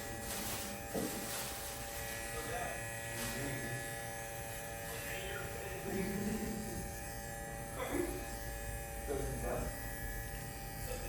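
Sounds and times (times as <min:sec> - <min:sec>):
electric hair clipper buzzing: 0:00.0 - 0:11.0.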